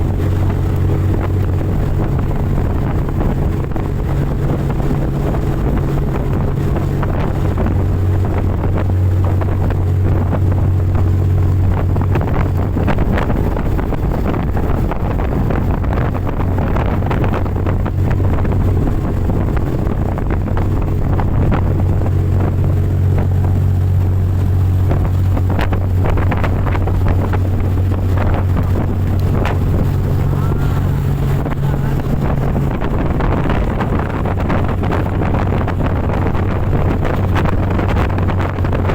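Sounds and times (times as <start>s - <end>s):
boat engine droning: 0.0s - 38.9s
rushing water: 0.0s - 38.9s
wind buffeting microphone: 0.0s - 38.9s.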